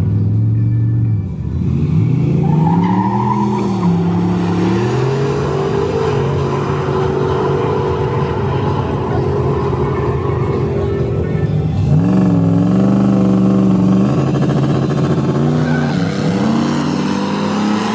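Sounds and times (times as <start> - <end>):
race car engine accelerating: 1.4 - 17.9
tire squeal: 1.9 - 17.9.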